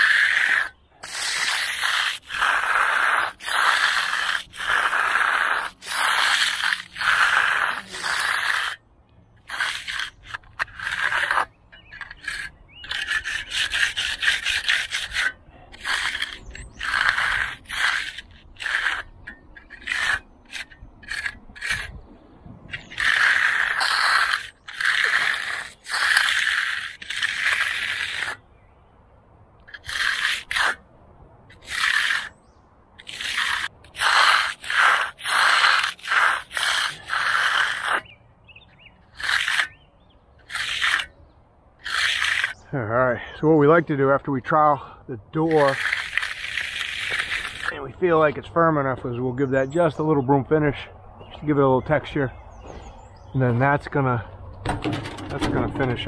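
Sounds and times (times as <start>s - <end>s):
trowel scraping wet concrete: 0.0s - 28.6s, 29.6s - 30.9s, 31.5s - 42.8s, 44.4s - 56.0s.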